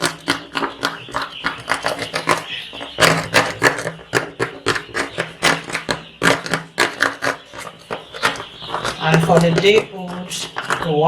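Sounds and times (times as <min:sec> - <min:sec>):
chicks pecking feed: 0:00.0 - 0:11.0.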